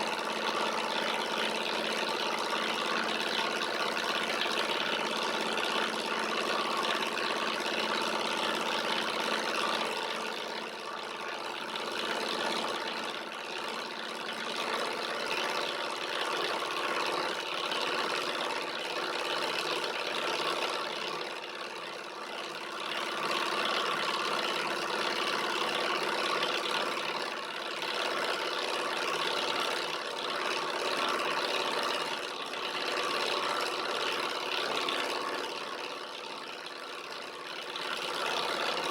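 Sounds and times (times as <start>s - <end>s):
stirling engine mechanical whir: 0.0s - 38.9s.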